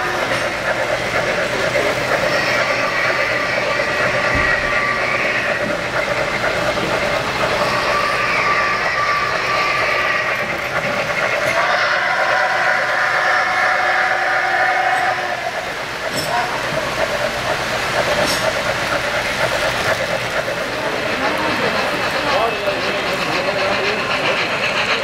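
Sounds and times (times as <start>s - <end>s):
busy hall din: 0.0s - 25.0s
model train wheels rattling: 0.0s - 25.0s.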